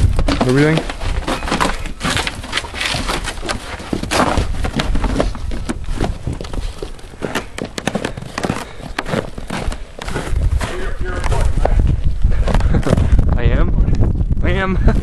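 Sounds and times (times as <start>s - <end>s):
wind rumbling on microphone: 0.0s - 7.8s, 8.6s - 15.0s
footsteps crunching in snow: 0.0s - 13.1s.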